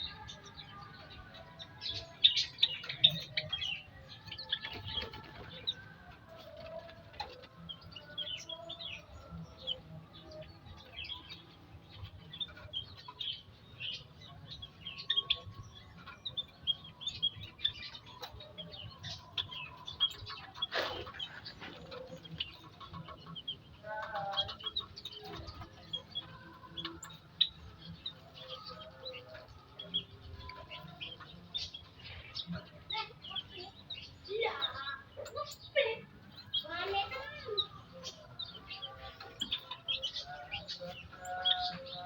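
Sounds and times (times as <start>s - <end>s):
birds chirping and tweeting: 0.0s - 42.0s.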